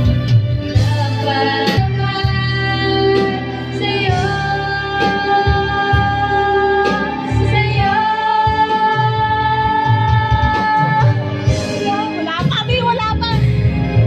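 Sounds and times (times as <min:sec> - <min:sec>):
karaoke backing track: 0:00.0 - 0:14.0
women singing karaoke: 0:00.0 - 0:14.0.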